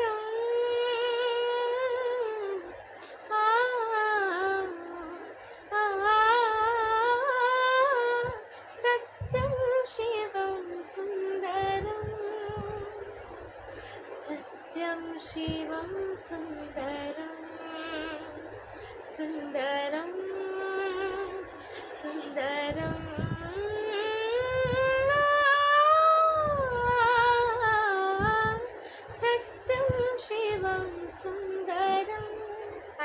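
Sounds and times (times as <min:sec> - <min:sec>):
woman singing unaccompanied: 0:00.0 - 0:33.0.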